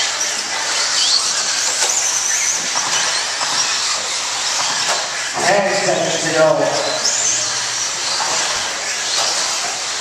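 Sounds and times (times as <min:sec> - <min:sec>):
model truck motor whine: 0:00.0 - 0:05.5, 0:06.1 - 0:10.0.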